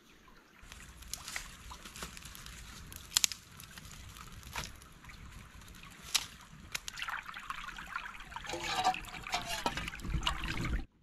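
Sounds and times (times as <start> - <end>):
stream running: 0.0 - 11.0
campfire crackling and popping: 0.6 - 10.8.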